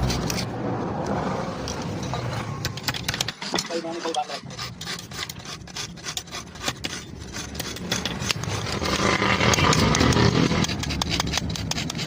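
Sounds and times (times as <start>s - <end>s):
metal rasping and scraping: 0.0s - 0.6s, 1.6s - 12.0s.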